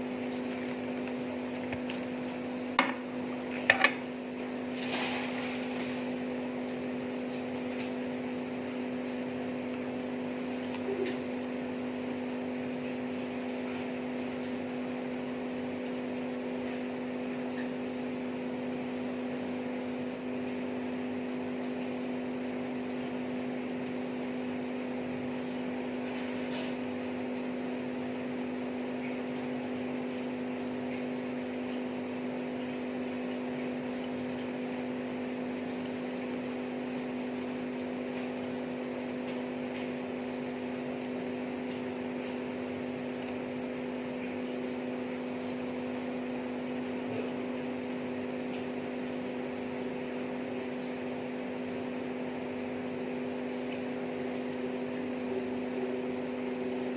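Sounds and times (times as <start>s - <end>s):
mechanical hum: 0.0s - 56.9s.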